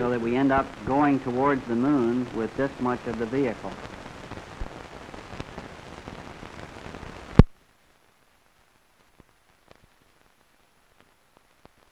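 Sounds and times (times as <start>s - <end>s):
film soundtrack hiss and crackle: 0.0s - 11.9s.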